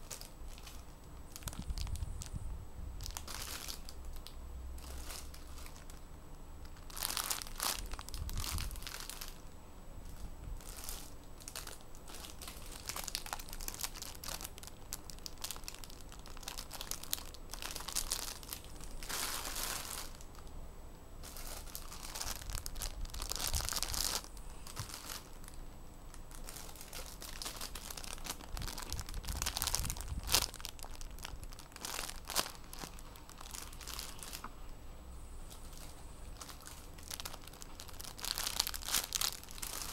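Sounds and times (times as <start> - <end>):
plastic bags crinkling: 0.0 - 2.4, 3.0 - 6.0, 6.6 - 9.4, 10.0 - 20.6, 21.2 - 34.5, 35.5 - 39.9.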